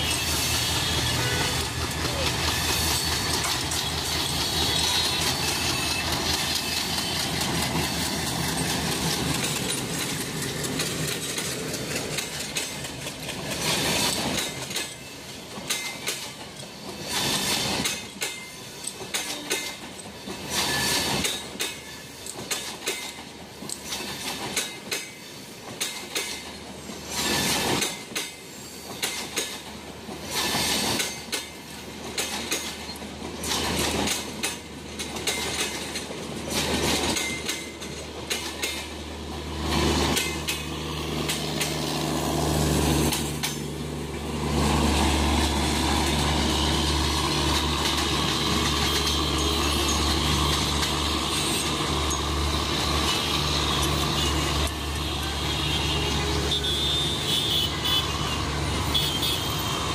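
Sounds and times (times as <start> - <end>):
diesel locomotive engine: 0.0 - 59.9
wheels clacking over rail joints: 0.0 - 59.9.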